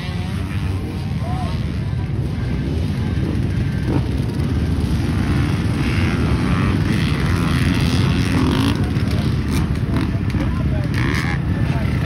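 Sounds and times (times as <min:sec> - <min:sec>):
motorcycle engines droning: 0:00.0 - 0:12.0.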